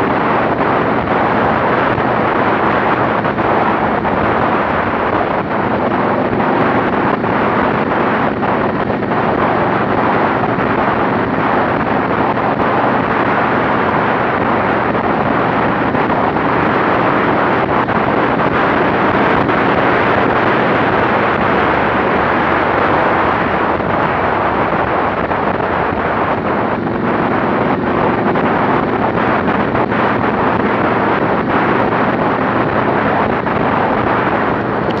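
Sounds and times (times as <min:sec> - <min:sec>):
motorcycle engine drone: 0:00.0 - 0:35.0
wind buffeting microphone: 0:00.0 - 0:35.0.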